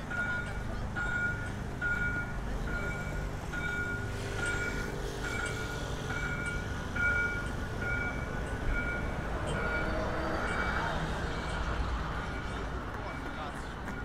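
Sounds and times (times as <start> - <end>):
city traffic rumble: 0.0 - 14.0
reversing alarm beeping: 0.1 - 11.6.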